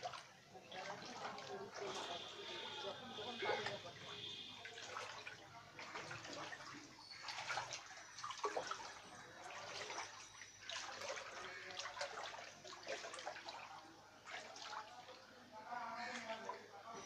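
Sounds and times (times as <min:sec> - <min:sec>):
wading through splashing water: 0:00.0 - 0:17.0.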